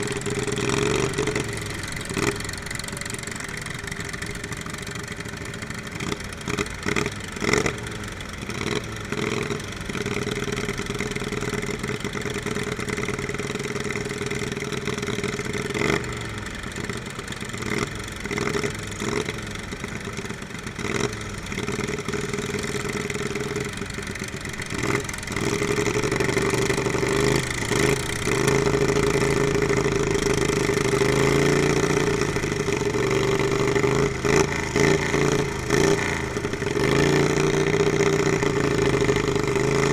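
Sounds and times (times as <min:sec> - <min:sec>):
lawnmower engines revving: 0:00.0 - 0:39.9.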